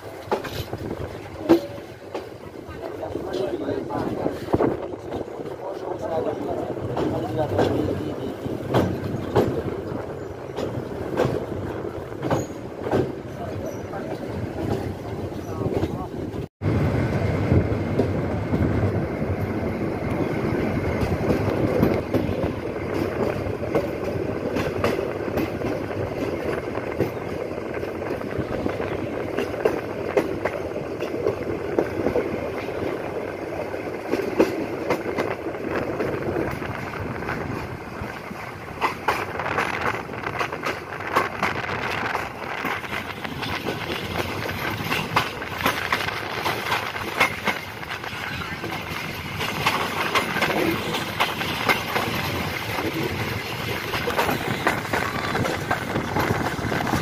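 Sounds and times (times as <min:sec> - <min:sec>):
sharp rail clicks: 0:00.0 - 0:16.4, 0:19.4 - 0:57.0
train wheels rumbling on rails: 0:00.0 - 0:57.0.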